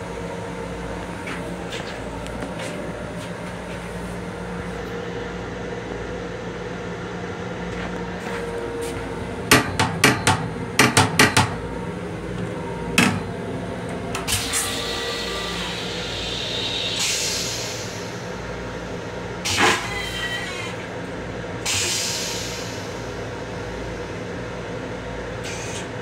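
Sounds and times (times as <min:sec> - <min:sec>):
electric railcar running hum: 0:00.0 - 0:26.0.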